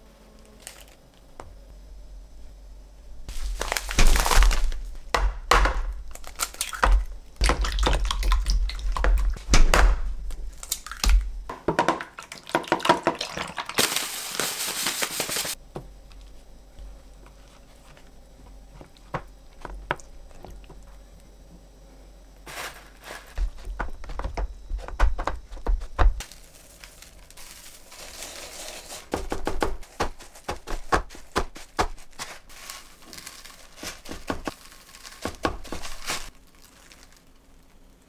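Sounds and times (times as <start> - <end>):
knocks and crinkling: 3.3 - 21.7, 22.4 - 37.8.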